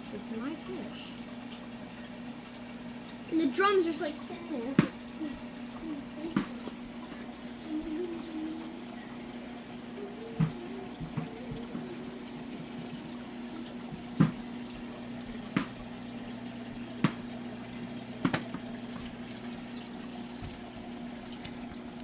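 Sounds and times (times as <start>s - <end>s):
aquarium pump hum: 0.0s - 22.0s
aquarium water moving: 0.0s - 22.0s.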